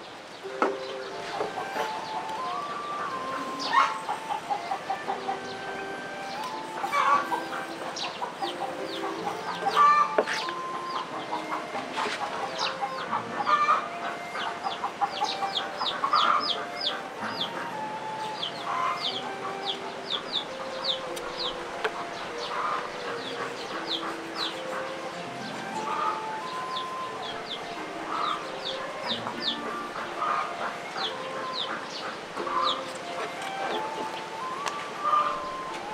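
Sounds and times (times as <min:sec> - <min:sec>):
lower bird calls: 0:00.0 - 0:35.9.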